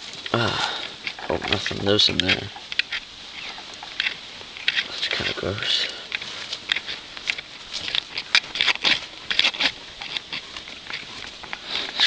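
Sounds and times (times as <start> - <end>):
rustling and crunching on dirt: 0.0 - 12.0.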